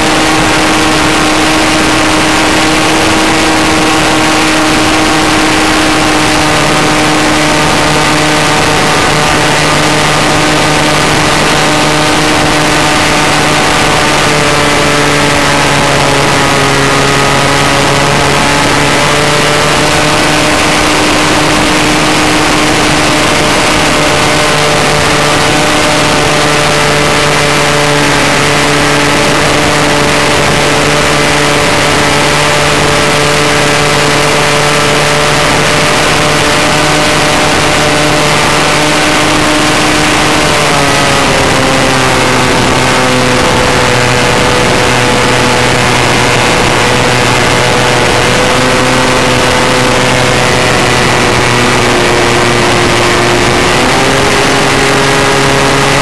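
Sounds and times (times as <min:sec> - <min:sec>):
model airplane engine and propeller: 0:00.0 - 0:56.0.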